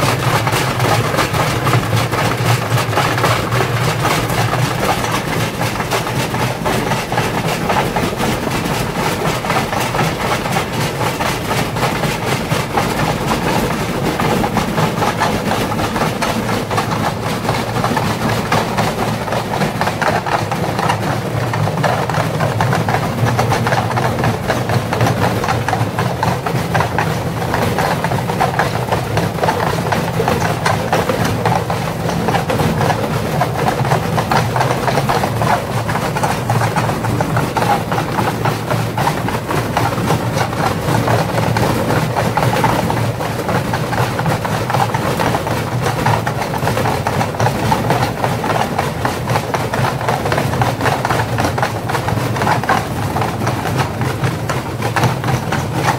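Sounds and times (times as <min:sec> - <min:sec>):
bricks rattling and banging in drum: 0:00.0 - 0:55.9
washing machine drone: 0:00.0 - 0:55.9.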